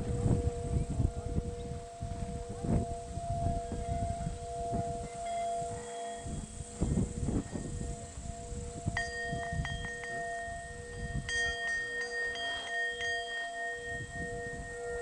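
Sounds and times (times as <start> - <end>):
low singing bowl tones: 0.0 - 15.0.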